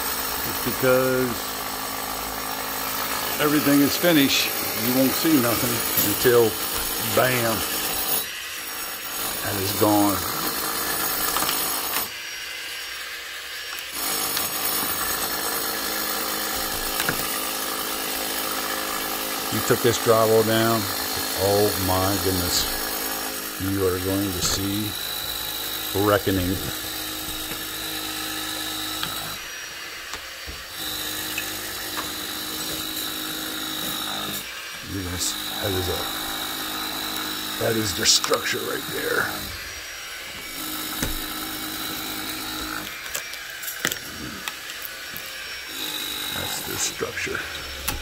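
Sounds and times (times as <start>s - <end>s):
screwdriver scraping wood: 0.0s - 12.2s, 13.0s - 48.0s.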